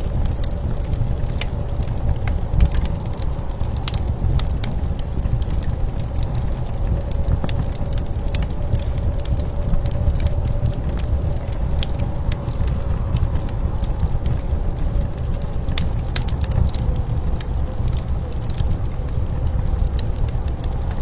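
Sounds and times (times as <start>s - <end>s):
blizzard wind rushing: 0.0s - 21.0s
wood fire crackling: 0.0s - 21.0s.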